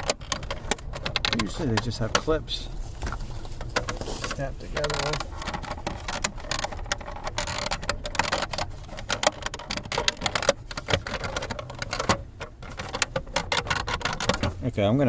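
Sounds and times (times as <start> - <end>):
plastic cover clicking and rattling: 0.0 - 14.7.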